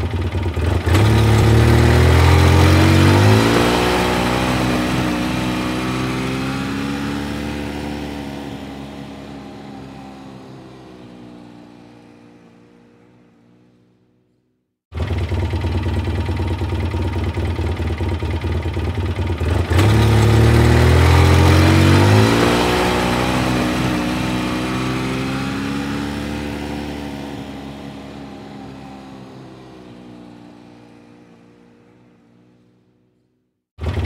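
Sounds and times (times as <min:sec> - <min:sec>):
atv engine idling and revving: 0:00.0 - 0:14.0, 0:14.9 - 0:33.2, 0:33.8 - 0:34.0.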